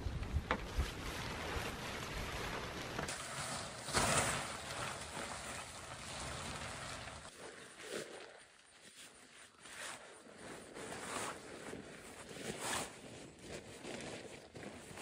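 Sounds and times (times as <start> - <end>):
fabric tarp rustling: 0.0 - 15.0.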